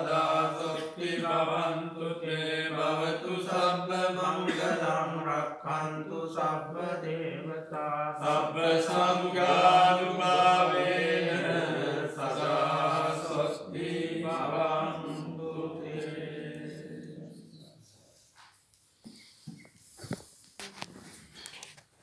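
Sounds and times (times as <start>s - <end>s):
monks chanting together: 0.0s - 17.8s.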